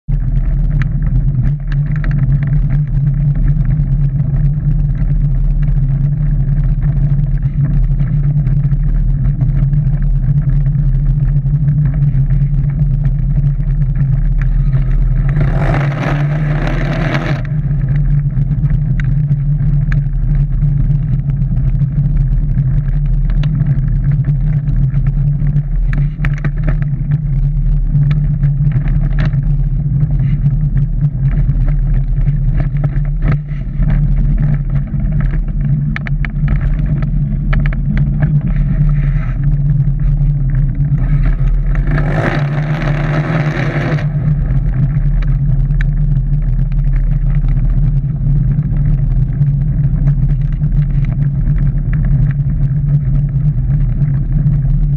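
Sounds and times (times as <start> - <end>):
car engine drone from inside: 0.0 - 54.9
faint rattles: 0.2 - 54.9.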